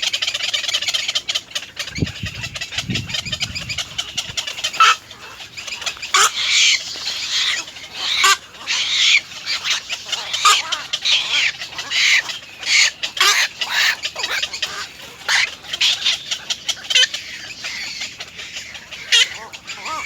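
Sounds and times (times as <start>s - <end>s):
nestling birds squawking: 0.0s - 20.0s.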